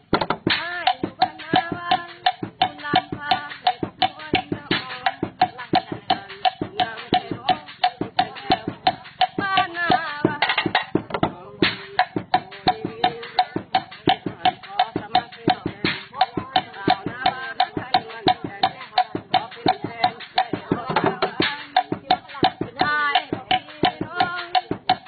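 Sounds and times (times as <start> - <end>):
homemade drum kit beaten: 0.0 - 25.0.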